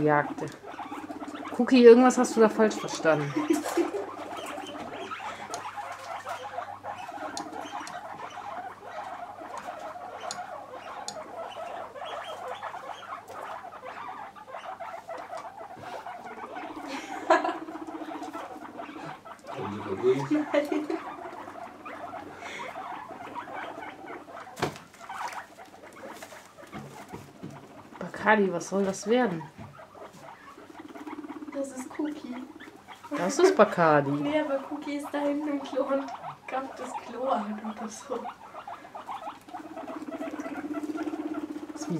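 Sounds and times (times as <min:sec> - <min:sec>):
guinea pigs calling: 0:00.0 - 0:41.9.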